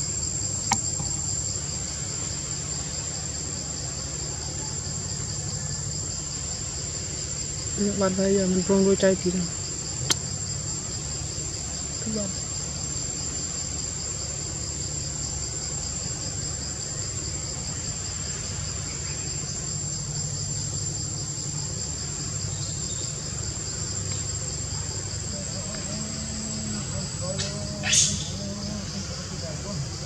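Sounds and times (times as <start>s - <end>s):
insects fast pulsing trill: 0.0s - 30.0s
insects high-pitched shrill: 0.0s - 30.0s.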